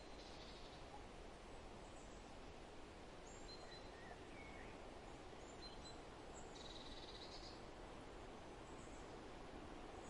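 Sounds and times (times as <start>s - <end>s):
low outdoor hiss: 0.0s - 10.0s.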